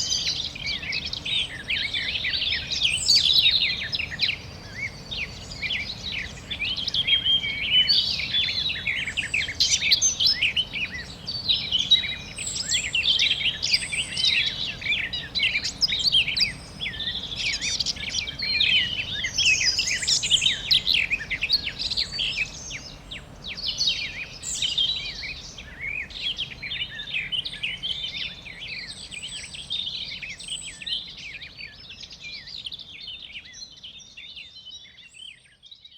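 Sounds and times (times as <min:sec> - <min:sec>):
faint background noise: 0:00.0 - 0:35.9
small birds chirping: 0:00.0 - 0:35.9.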